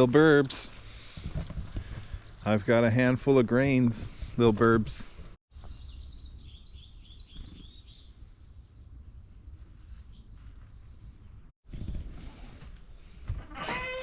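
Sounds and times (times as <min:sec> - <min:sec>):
songbirds chirping: 0:00.0 - 0:13.3.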